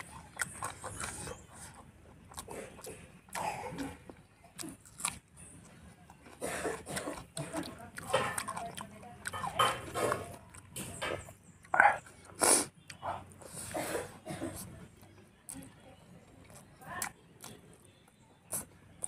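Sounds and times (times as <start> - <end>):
person chewing with wet smacks: 0.0 - 19.0.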